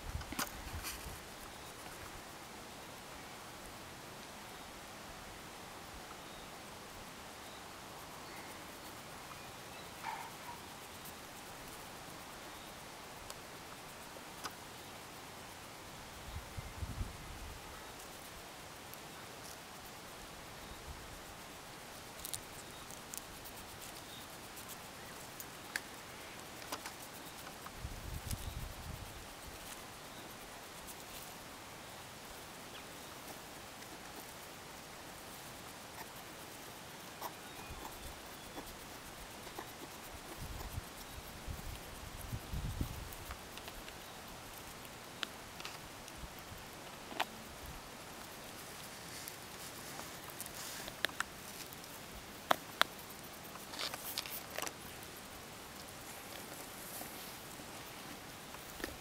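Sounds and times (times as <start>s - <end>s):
hedgehog rustling in grass: 0.0s - 3.0s, 6.0s - 59.0s
background hiss: 0.0s - 59.0s.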